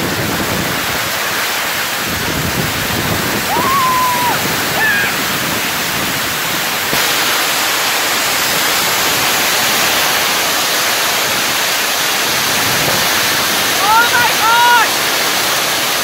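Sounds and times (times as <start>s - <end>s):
heavy pouring rain: 0.0s - 16.0s.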